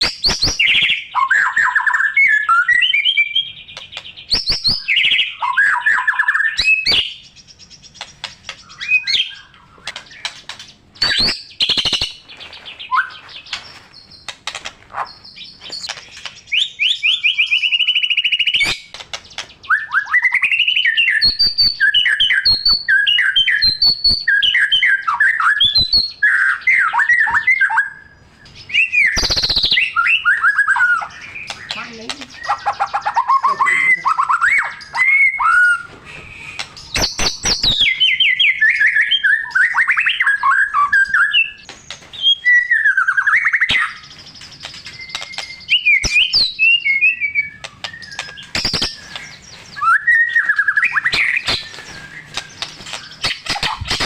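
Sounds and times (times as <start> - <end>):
bird singing whistled song: 0.0 - 14.4, 15.0 - 54.0.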